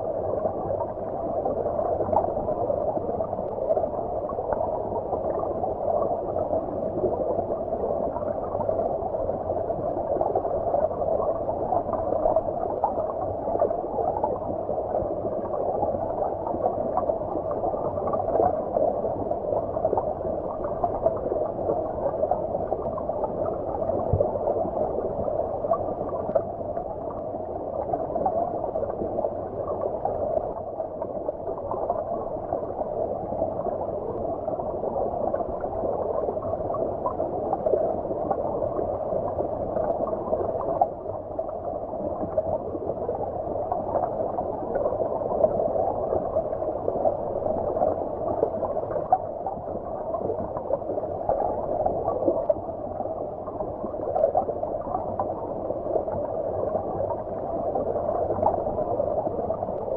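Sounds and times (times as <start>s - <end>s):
muffled underwater stream gurgling: 0.0s - 59.9s.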